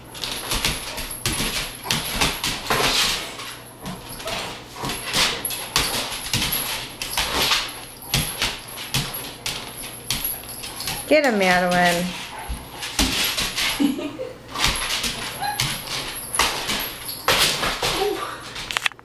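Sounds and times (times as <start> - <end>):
dog scuffling and huffing: 0.0 - 18.9.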